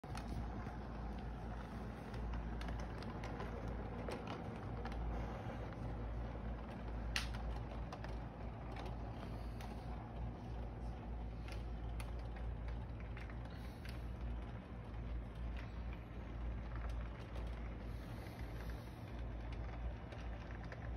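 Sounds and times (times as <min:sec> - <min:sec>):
toy train motor humming: 0:00.0 - 0:20.9.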